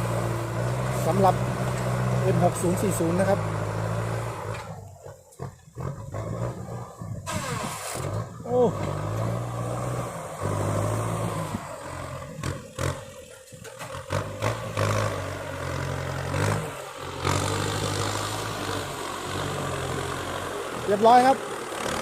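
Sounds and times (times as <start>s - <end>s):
tractor diesel engine drone: 0.0s - 22.0s.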